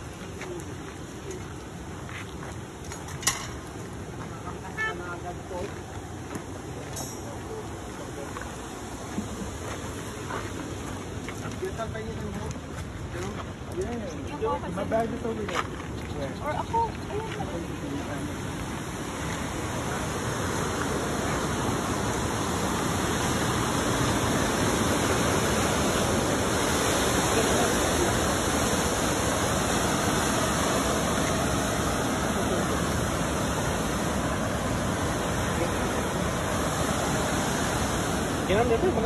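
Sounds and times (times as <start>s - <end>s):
flowing water rushing: 0.0s - 15.5s, 16.2s - 39.0s.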